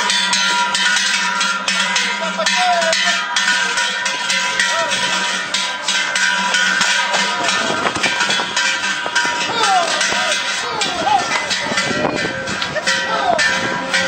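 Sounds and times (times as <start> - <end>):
ox bells clanking: 0.0 - 14.0.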